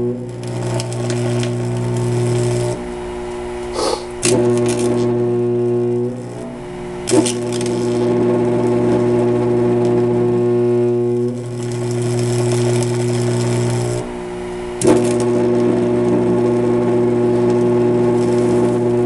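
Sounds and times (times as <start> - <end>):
arc torch buzzing and hissing: 0.0 - 19.0
welder low hum: 0.0 - 19.0
arc re-striking with crackle: 0.2 - 19.0.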